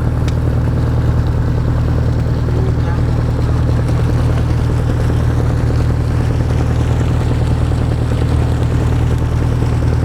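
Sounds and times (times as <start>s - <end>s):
boat engine idling: 0.0s - 10.0s.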